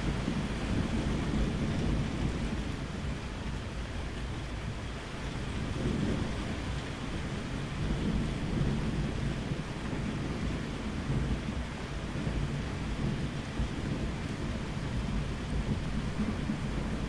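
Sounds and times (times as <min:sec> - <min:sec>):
rolling thunder: 0:00.0 - 0:03.2, 0:05.5 - 0:17.0
steady rain: 0:00.0 - 0:17.0.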